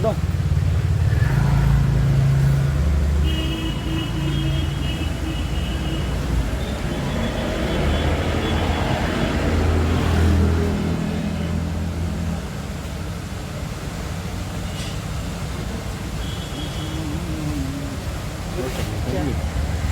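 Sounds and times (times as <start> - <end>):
vehicle engine rumbling: 0.0 - 19.9.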